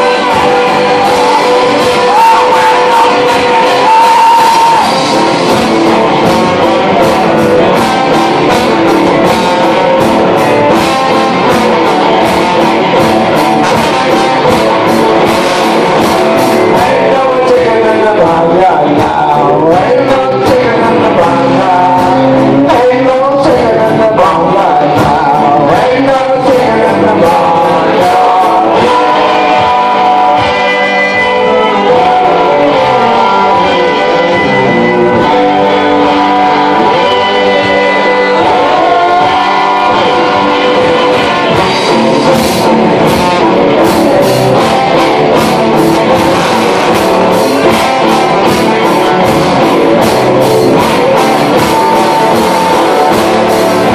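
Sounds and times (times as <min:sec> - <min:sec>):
drums and cymbals: 0:00.0 - 0:53.9
person singing: 0:00.0 - 0:53.9.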